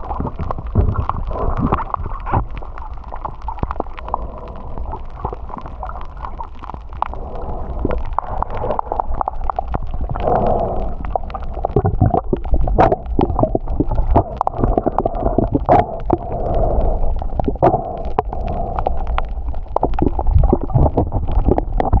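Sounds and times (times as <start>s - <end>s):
underwater rumble and gurgle: 0.0s - 22.0s.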